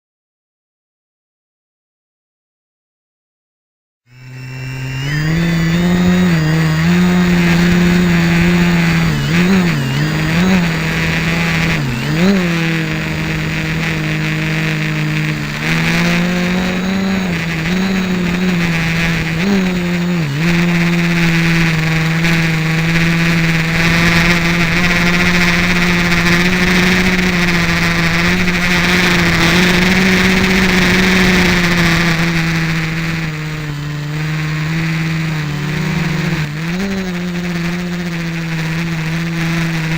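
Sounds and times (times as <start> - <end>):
quadcopter motors buzzing: 4.1 - 39.9.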